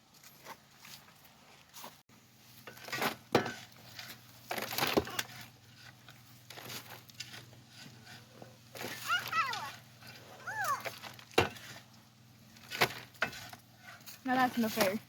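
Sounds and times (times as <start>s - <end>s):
mulch being dug and scooped: 1.6s - 15.0s.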